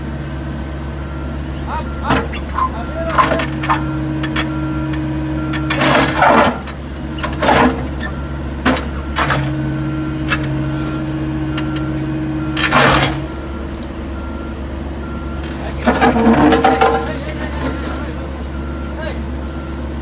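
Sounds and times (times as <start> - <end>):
diesel engines droning: 0.0 - 20.0.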